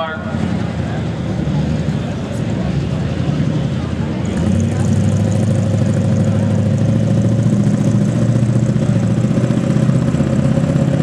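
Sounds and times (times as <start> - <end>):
truck engine running loud: 0.0 - 11.0.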